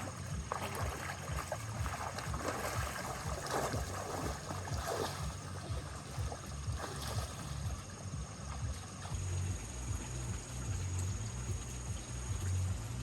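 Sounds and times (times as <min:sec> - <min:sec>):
water sloshing and rushing: 0:00.0 - 0:12.8.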